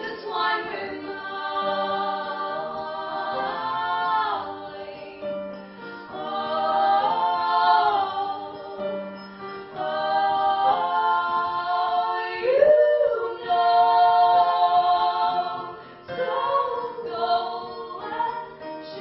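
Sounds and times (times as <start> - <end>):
instrumental accompaniment: 0.0 - 19.0
voices singing in harmony: 0.0 - 19.0.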